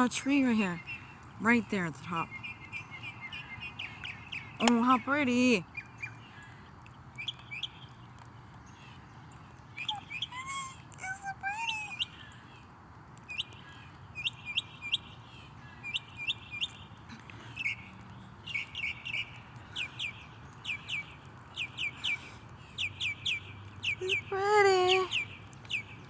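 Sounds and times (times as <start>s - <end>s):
small songbird chirping: 0.0s - 26.0s.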